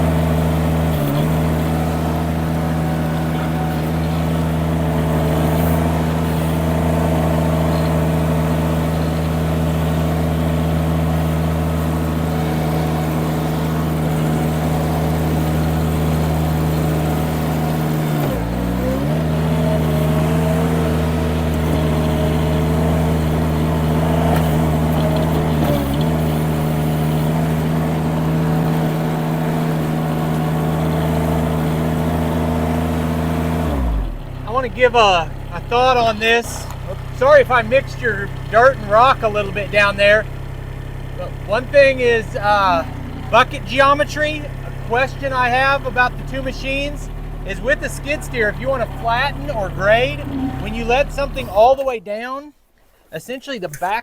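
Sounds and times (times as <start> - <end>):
skid steer engine running: 0.0 - 52.0.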